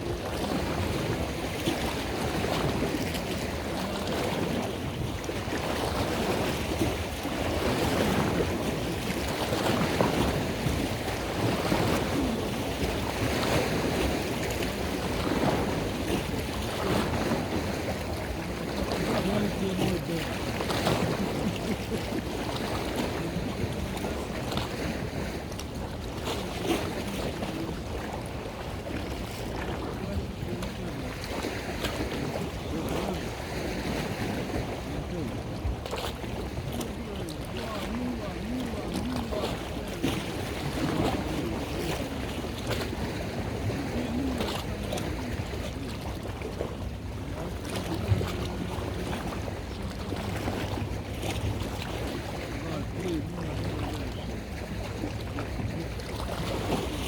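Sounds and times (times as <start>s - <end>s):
boat engine: 0.0s - 57.0s
water noise: 0.0s - 57.0s
wind buffeting microphone: 0.0s - 57.0s.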